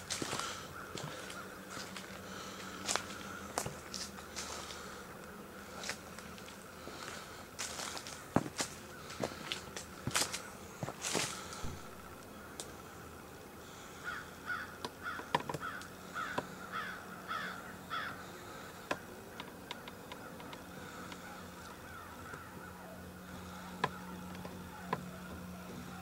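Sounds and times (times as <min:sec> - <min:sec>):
faint steady hum: 0:00.0 - 0:26.0
crow cawing: 0:00.1 - 0:05.1, 0:06.8 - 0:26.0.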